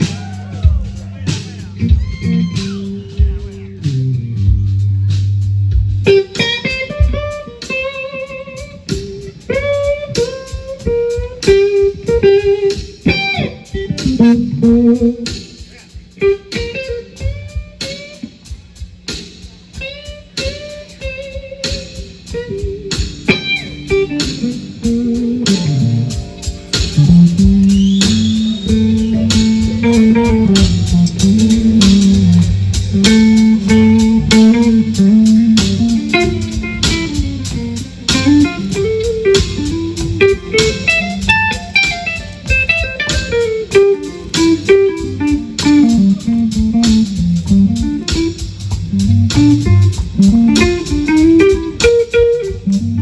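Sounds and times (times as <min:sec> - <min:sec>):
electric guitar bent notes: 0:00.0 - 0:18.5, 0:19.6 - 0:53.0
bass guitar: 0:00.0 - 0:53.0
electric blues band: 0:00.0 - 0:53.0.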